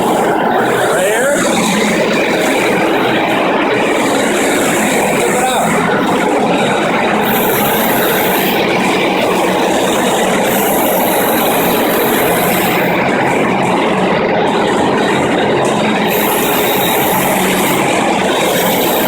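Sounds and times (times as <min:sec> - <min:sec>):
concrete floor grinder grinding: 0:00.0 - 0:19.0.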